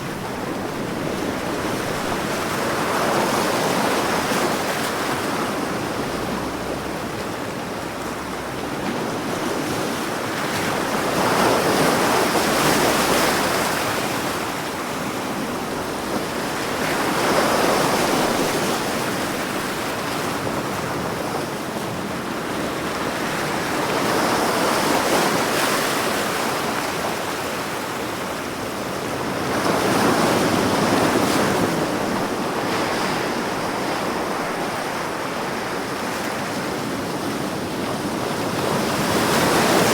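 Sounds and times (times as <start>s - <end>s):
ocean waves crashing on shore: 0.0s - 39.9s.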